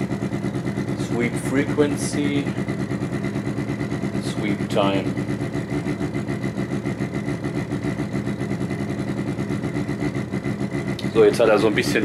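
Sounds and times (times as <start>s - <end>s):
low throbbing buzz from speaker: 0.0s - 12.0s.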